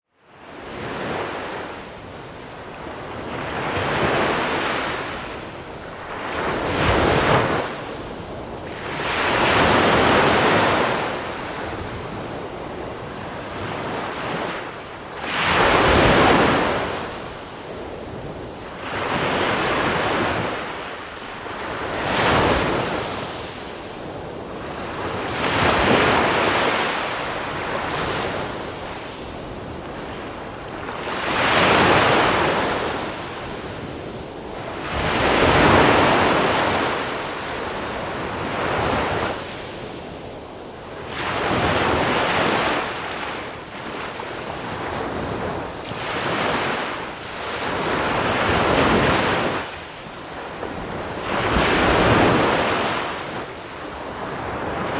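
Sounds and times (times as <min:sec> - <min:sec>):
wind on microphone: 0:00.3 - 0:54.9.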